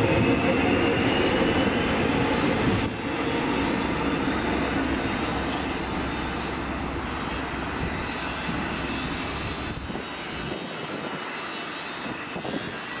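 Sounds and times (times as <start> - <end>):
electric train pulling away: 0.0 - 13.0
low train rumble: 0.0 - 13.0.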